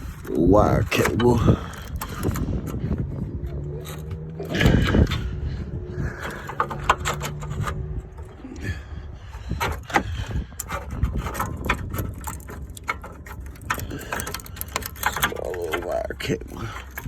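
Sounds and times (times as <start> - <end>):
hands handling parts: 0.0 - 17.0
steady low hum: 0.0 - 17.0.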